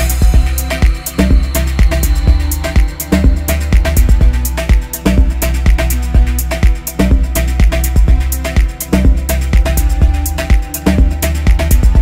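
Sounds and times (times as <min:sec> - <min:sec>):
music with heavy bass drum: 0:00.0 - 0:12.0.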